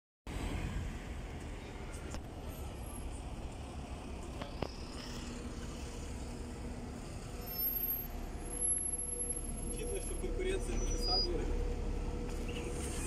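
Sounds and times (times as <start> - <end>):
bus engine rumble: 0.3 - 13.0.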